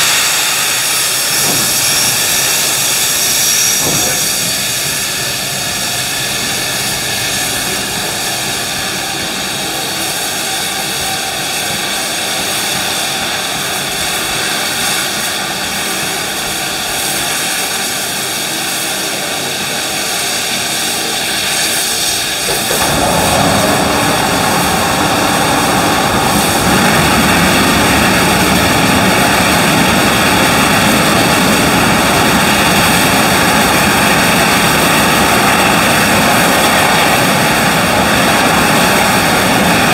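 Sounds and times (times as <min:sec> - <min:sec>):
loud rush of steam: 0:00.0 - 0:39.9
steam locomotive hissing: 0:00.0 - 0:39.9.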